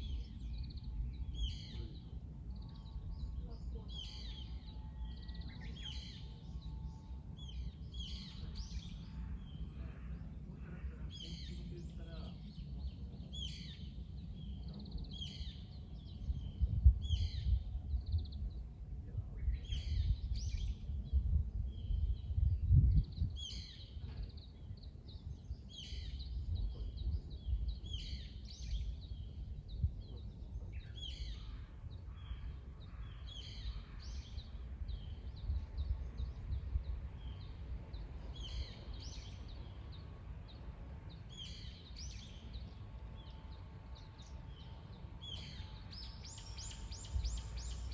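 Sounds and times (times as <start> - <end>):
low rumbling background: 0.0 - 47.9
songbirds chirping: 0.0 - 47.9.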